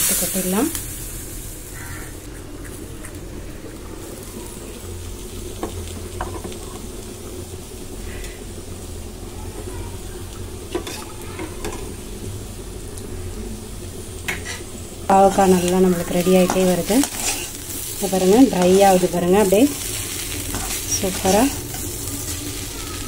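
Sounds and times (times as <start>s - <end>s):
steady low hum: 0.0s - 22.9s
soup sizzling in a pot: 0.0s - 23.0s.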